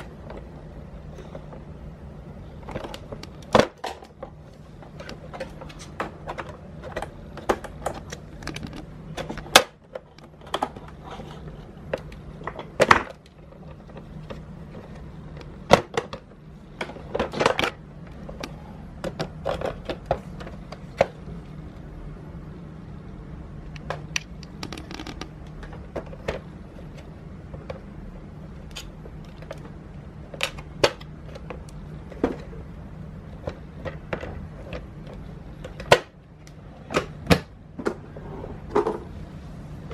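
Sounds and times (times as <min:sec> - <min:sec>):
low steady hum: 0:00.0 - 0:39.9
vacuum parts clicking and rattling: 0:02.5 - 0:21.4, 0:23.7 - 0:39.2.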